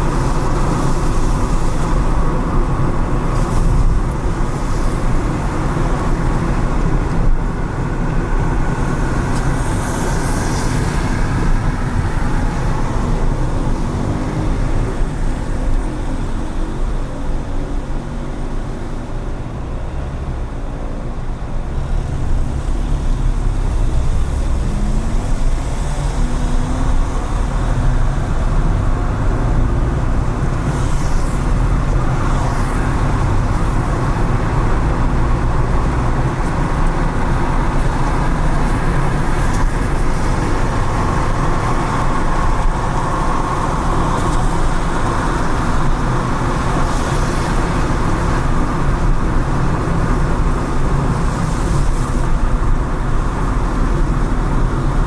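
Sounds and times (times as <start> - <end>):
car engine and tyre noise: 0.0 - 55.0
surrounding traffic: 0.0 - 55.0.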